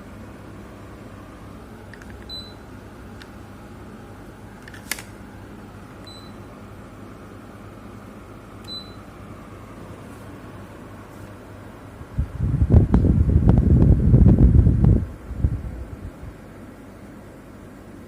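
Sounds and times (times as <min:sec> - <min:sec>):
air conditioner airflow hum: 0:00.0 - 0:18.0.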